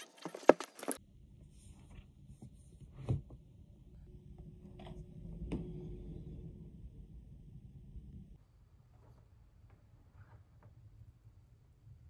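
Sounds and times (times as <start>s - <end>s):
faint low hum: 1.0s - 12.0s.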